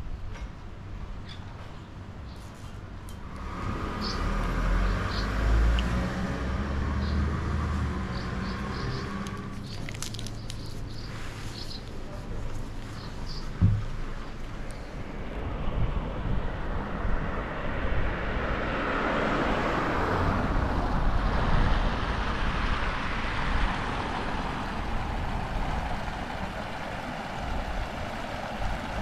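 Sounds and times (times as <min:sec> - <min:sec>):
vehicle passing: 0:03.2 - 0:11.7, 0:13.3 - 0:29.0.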